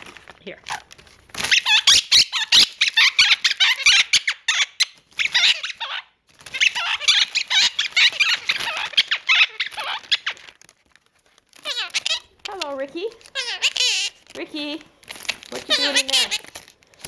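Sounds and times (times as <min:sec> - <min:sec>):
parrot chattering: 0:00.6 - 0:10.6, 0:11.6 - 0:16.7.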